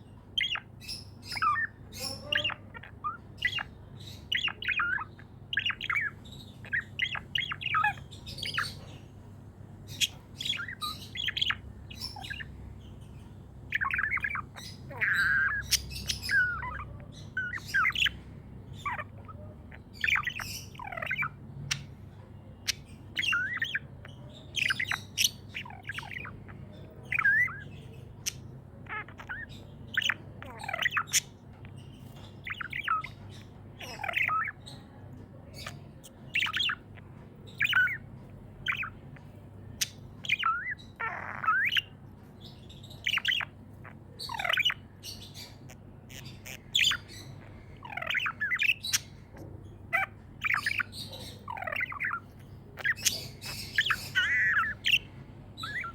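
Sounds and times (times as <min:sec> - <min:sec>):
budgies chirping and squawking: 0:00.0 - 0:55.9
faint steady hum: 0:00.0 - 0:55.9.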